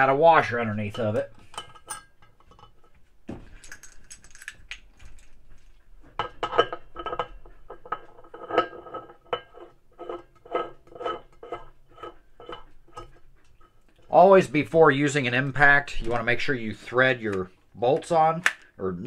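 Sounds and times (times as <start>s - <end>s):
metal clinking and scraping: 0.0s - 16.7s.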